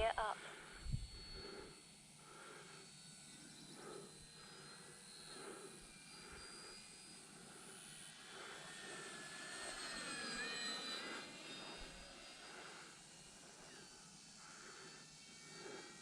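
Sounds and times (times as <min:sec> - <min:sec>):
model plane motor whine: 0:01.0 - 0:16.0.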